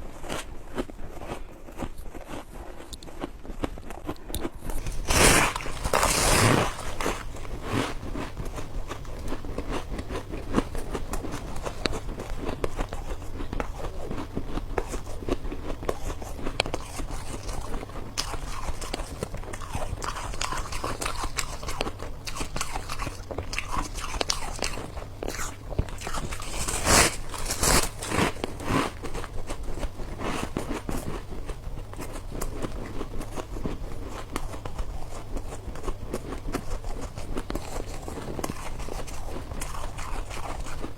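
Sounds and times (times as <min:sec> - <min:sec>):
crackle of chewing: 0:00.0 - 0:40.9
biting and crunching ice: 0:00.2 - 0:29.9, 0:36.1 - 0:40.9.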